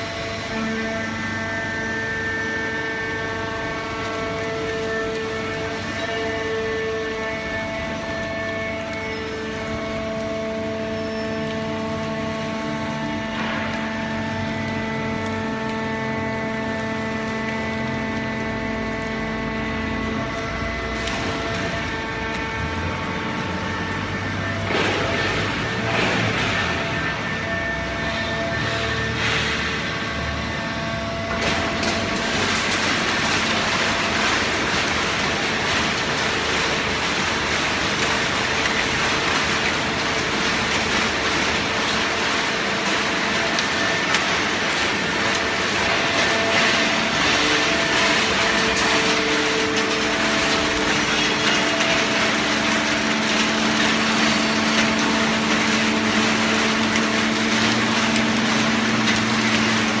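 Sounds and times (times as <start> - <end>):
hydraulic baling press running: 0.0 - 60.0.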